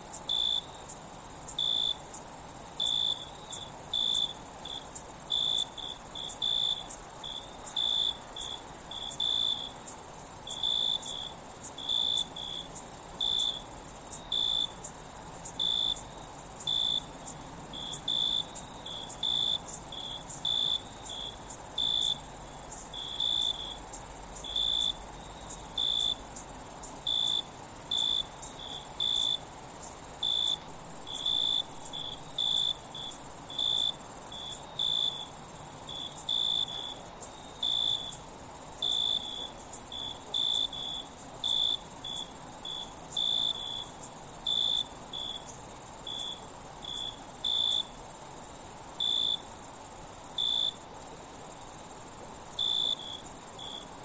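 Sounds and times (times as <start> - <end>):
crickets chirping: 0.0 - 54.0
high-pitched insect trill: 0.1 - 54.0.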